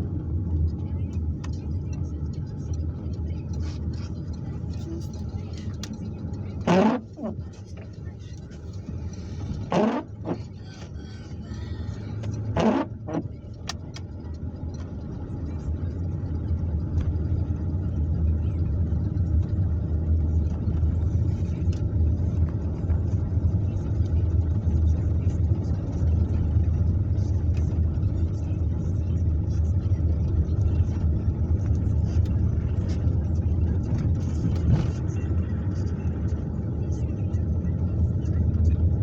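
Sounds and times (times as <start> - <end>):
car engine and tyres rumbling: 0.0 - 39.0.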